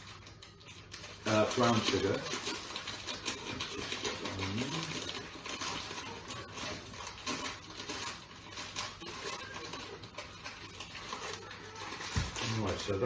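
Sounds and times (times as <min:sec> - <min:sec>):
sugar scraping and rustling: 0:00.0 - 0:13.0.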